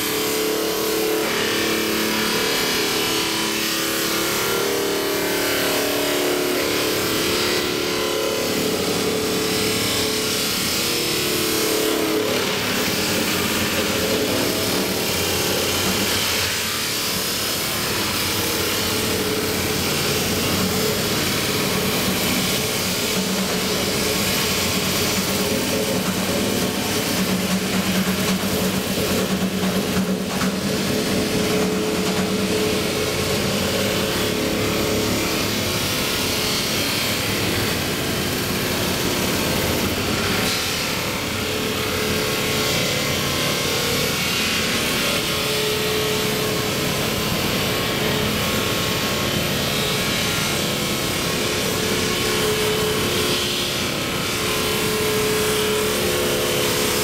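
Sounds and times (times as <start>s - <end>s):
abrasive wheel grinding metal: 0.0s - 57.0s.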